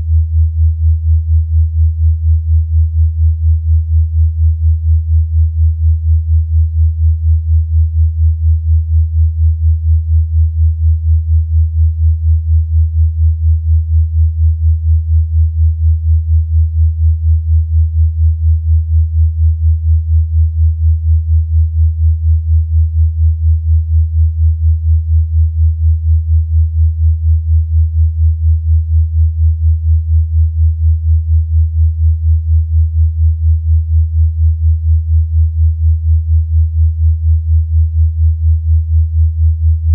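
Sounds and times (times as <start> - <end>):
low pulsing sine tone: 0.0 - 39.9.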